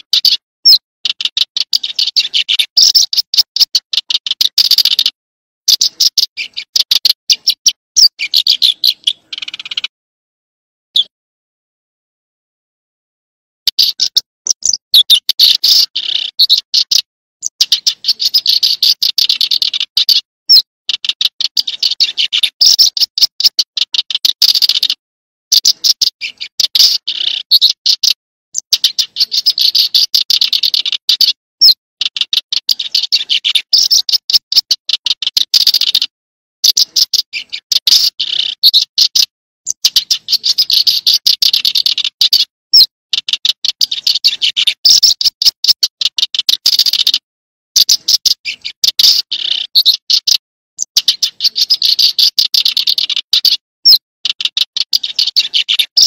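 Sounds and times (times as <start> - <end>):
songbird chattering calls: 0.0 - 9.9, 13.7 - 47.2, 47.8 - 56.0.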